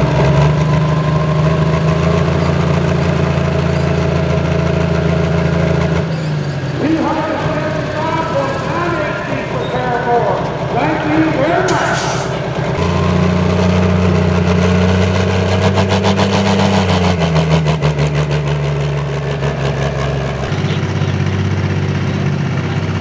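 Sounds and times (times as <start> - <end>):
tractor diesel engine running: 0.0 - 23.0
tractor engine idling: 0.0 - 23.0.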